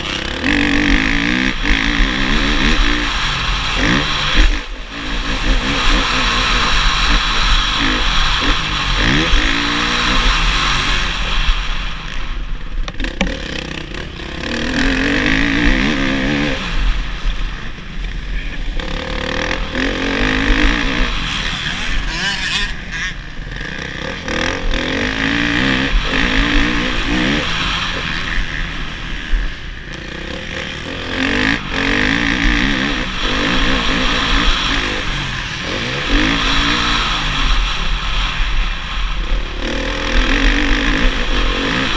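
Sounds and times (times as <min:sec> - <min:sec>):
motocross bike engine revving: 0:00.0 - 0:41.9.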